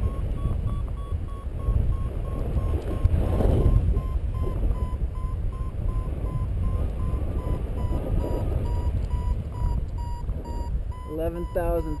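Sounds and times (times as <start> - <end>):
variometer beeping: 0.0 - 12.0
wind rumble on microphone: 0.0 - 12.0.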